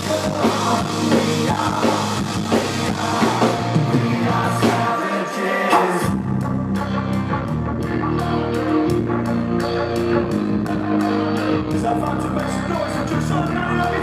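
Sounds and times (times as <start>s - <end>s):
bass guitar: 0.0s - 5.0s, 6.0s - 14.0s
steady cymbal beat: 0.0s - 13.7s.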